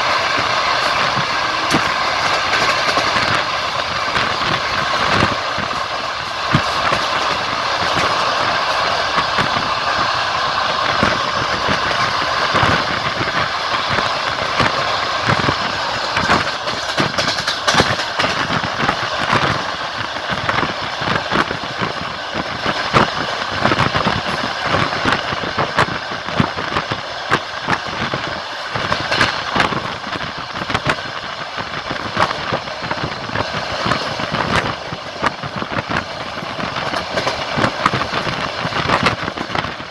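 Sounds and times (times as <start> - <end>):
train carriage rumble and rattle: 0.0 - 39.9
wheels clacking over rail joints: 0.0 - 39.9.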